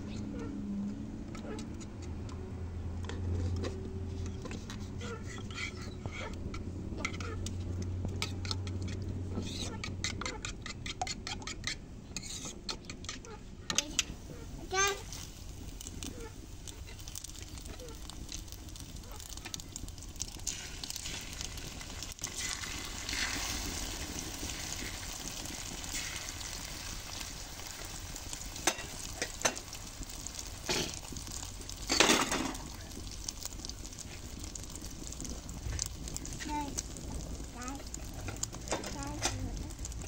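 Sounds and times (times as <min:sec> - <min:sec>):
eggs sizzling in a pan: 0:00.0 - 0:40.0.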